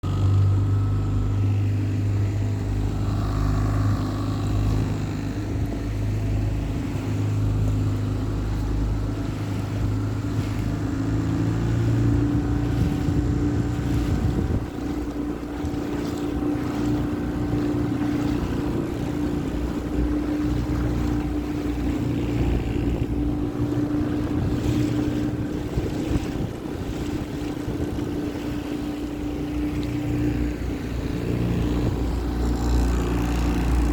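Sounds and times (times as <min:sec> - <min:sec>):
motorboat engine running: 0:00.0 - 0:33.9.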